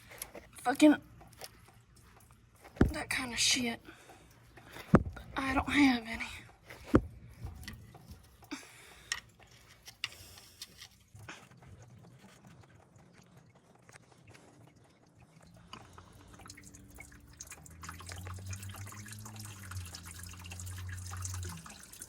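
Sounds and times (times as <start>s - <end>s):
coolant dripping and trickling: 0.0s - 22.0s
low steady hum: 0.0s - 22.0s.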